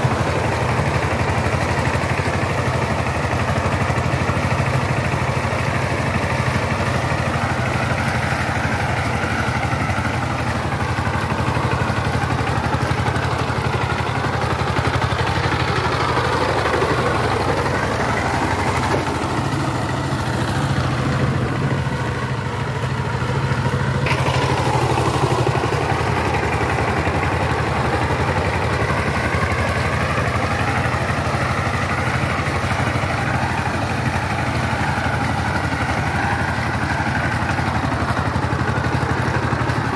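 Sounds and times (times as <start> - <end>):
diesel tiller engine under load: 0.0 - 39.9.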